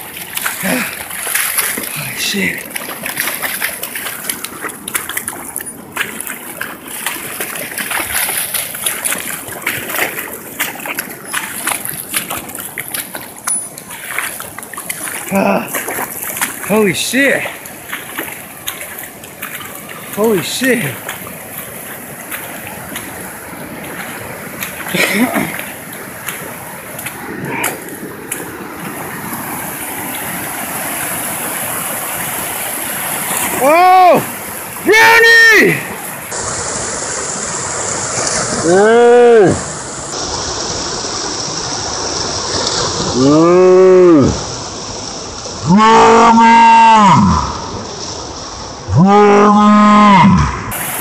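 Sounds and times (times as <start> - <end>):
small water splashes: 0.0 - 46.2, 50.7 - 51.0
floodwater rushing: 0.0 - 51.0.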